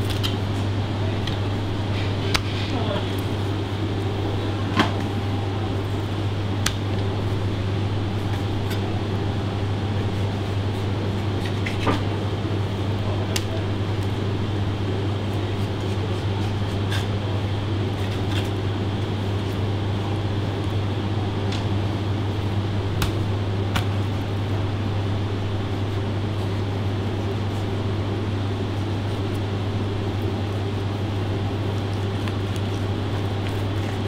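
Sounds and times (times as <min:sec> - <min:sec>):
kitchen ventilation hum: 0:00.0 - 0:34.0.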